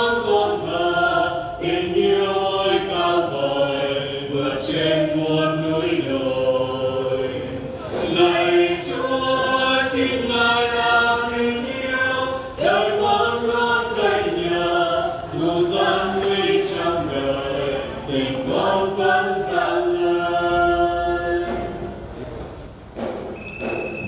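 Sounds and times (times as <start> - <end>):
group singing unaccompanied: 0.0 - 22.0.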